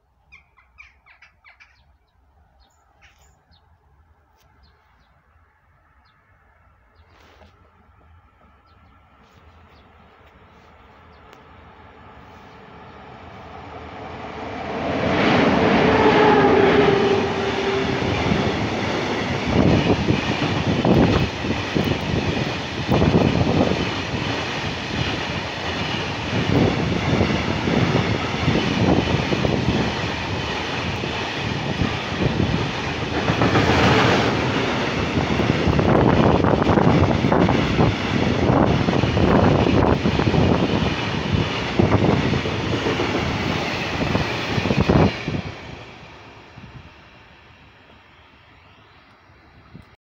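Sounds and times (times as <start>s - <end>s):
locomotive passing: 7.6s - 49.9s.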